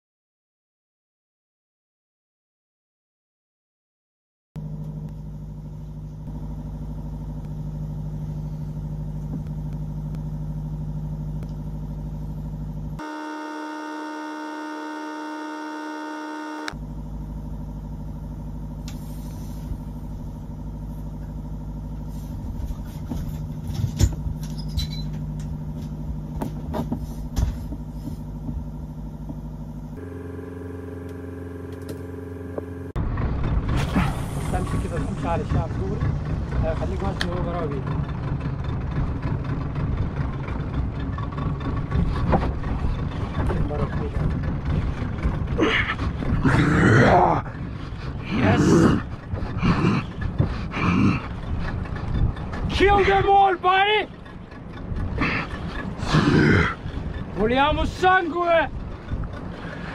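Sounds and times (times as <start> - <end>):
boat machinery humming: 4.6 - 59.9.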